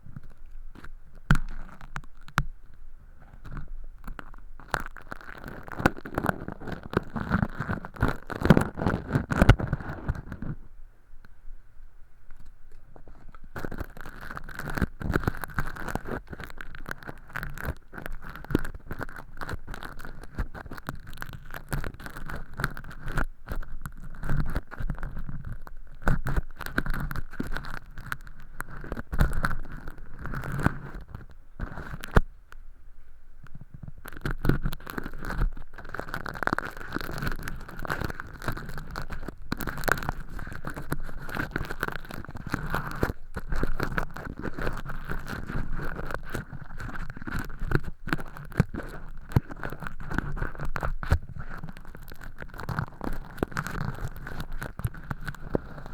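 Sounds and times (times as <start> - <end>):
ear pick scraping and crackling: 0.0 - 11.4, 12.3 - 55.9.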